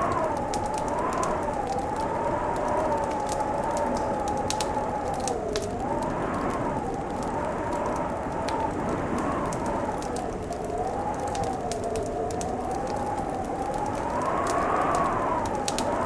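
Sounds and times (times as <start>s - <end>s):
fireplace crackling and popping: 0.0s - 16.0s
howling wind: 0.0s - 16.0s.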